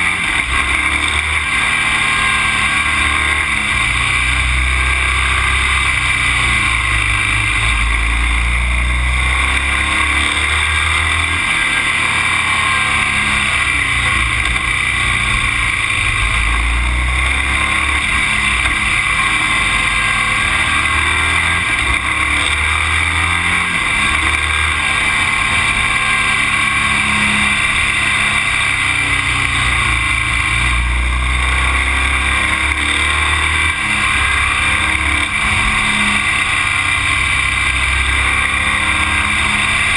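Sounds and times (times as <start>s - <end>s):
vehicle road noise: 0.0s - 39.9s.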